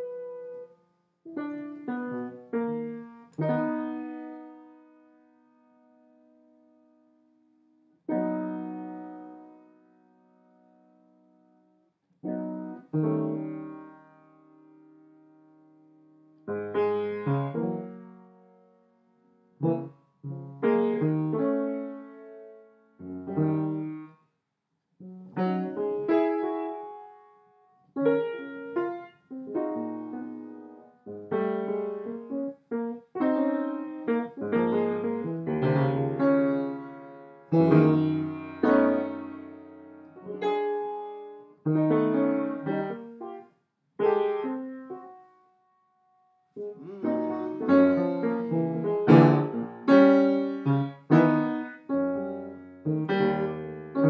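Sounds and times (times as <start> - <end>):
piano playing chords: 0.0 - 0.7, 1.3 - 7.0, 8.0 - 11.5, 12.2 - 15.2, 16.4 - 24.1, 25.0 - 45.3, 46.5 - 54.0.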